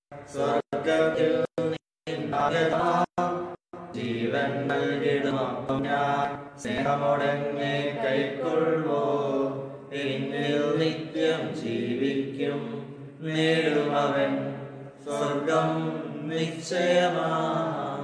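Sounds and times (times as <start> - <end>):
slow sung liturgical chant: 0.0 - 18.0.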